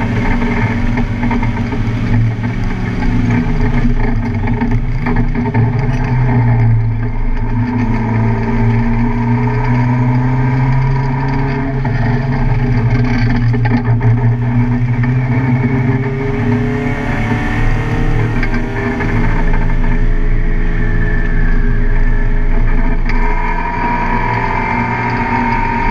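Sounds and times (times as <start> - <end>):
car engine running hard: 0.0 - 25.9
road and wind noise: 0.0 - 25.9.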